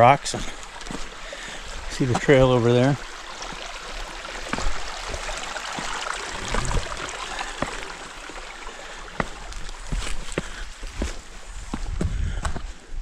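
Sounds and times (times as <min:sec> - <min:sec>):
stream rushing over boulders: 0:00.0 - 0:12.0
footsteps on rocky trail: 0:00.0 - 0:13.0.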